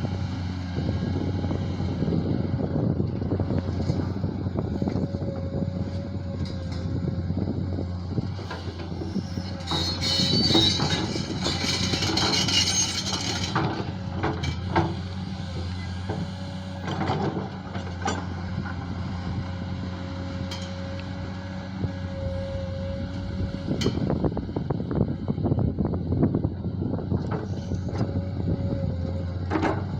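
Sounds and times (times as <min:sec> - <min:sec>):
diesel engine running: 0:00.0 - 0:29.9
hydraulic whine: 0:02.2 - 0:18.2, 0:20.5 - 0:29.9.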